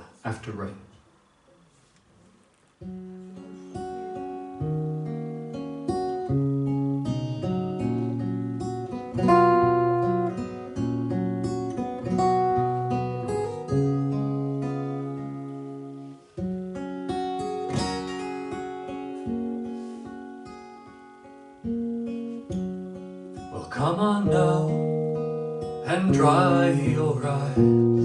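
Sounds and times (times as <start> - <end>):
acoustic guitar plucked notes: 2.8 - 28.0.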